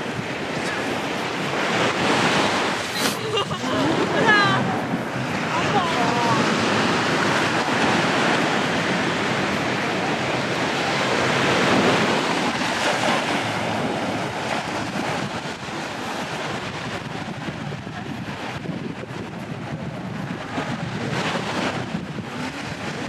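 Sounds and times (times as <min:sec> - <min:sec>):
sea waves breaking on beach: 0:00.0 - 0:23.0.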